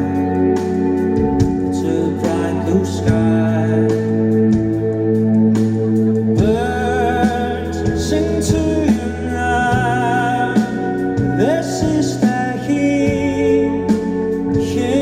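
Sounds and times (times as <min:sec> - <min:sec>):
drum and cymbal hits: 0:00.0 - 0:15.0
sustained bass: 0:00.0 - 0:15.0.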